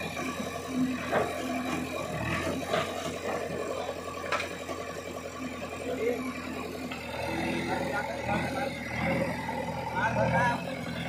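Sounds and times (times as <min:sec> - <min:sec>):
diesel engine under hydraulic load: 0:00.0 - 0:11.0.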